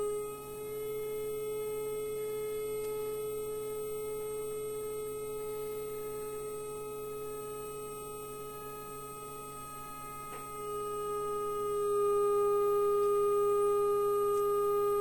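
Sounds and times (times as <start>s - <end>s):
steady pure test tone: 0.0s - 15.0s.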